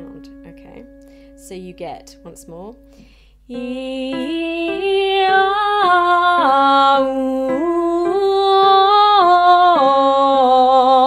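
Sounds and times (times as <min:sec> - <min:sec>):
woman singing vocal scale: 0:00.0 - 0:11.0.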